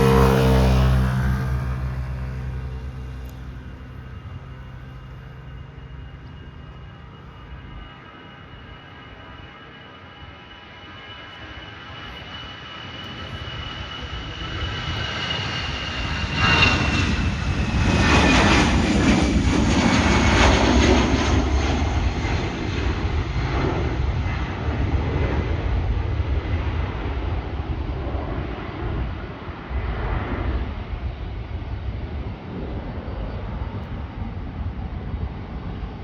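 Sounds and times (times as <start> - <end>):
jet airliner roar: 0.0 - 36.0
jet engine whine: 0.0 - 36.0.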